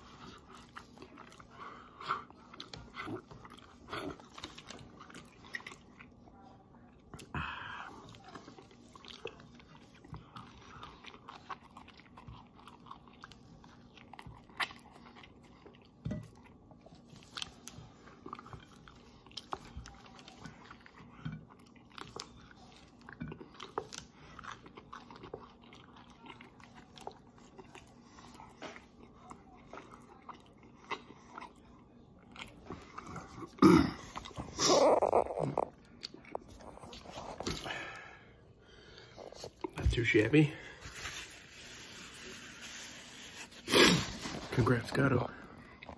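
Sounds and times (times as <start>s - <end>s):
chewing toasted bread: 0.0s - 45.9s.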